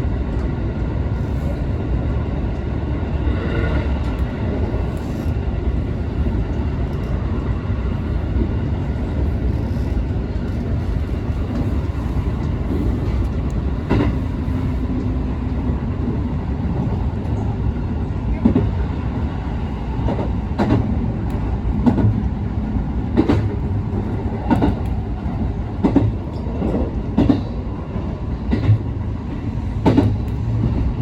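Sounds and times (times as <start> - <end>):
train wheels and motors rumbling: 0.0 - 31.0.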